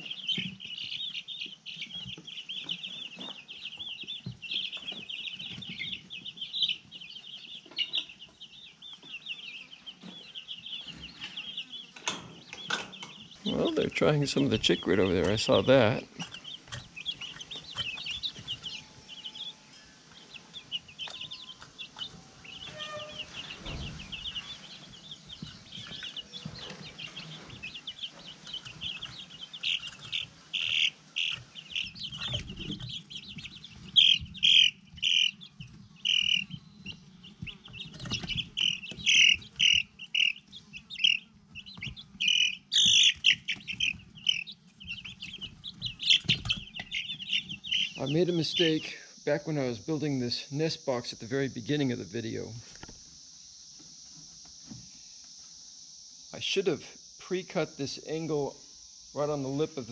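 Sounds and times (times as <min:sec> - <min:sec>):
chicks peeping: 0:00.0 - 0:55.4, 0:56.4 - 0:59.9.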